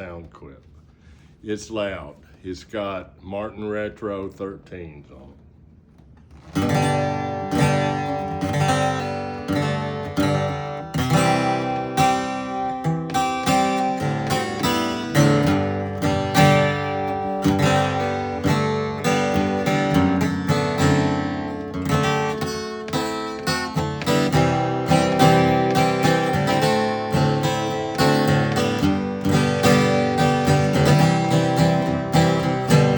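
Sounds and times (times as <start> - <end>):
acoustic guitar strummed and picked: 6.4 - 32.9.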